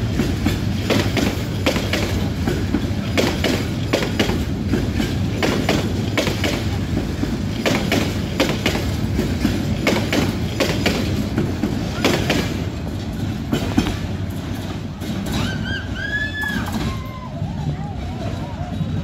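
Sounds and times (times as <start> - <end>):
train rumble: 0.0 - 19.0
wheels clacking over rail joints: 0.0 - 19.0.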